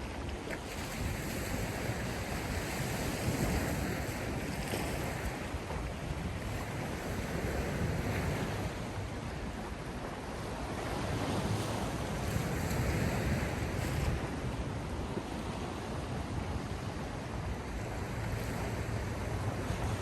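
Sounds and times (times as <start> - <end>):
sea waves washing ashore: 0.0 - 20.0
wind blowing over microphone: 0.7 - 20.0.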